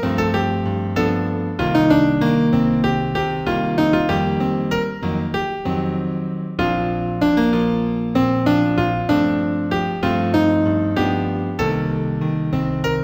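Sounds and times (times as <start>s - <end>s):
slow keyboard music: 0.0s - 13.0s.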